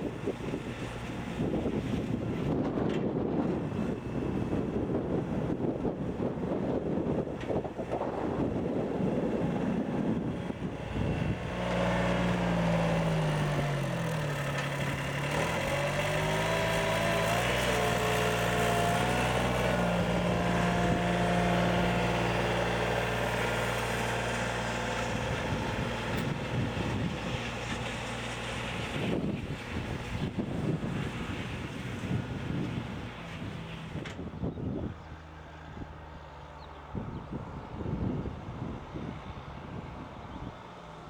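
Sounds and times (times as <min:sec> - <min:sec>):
diesel engine running: 0:00.0 - 0:41.0
wind buffeting microphone: 0:00.0 - 0:41.0.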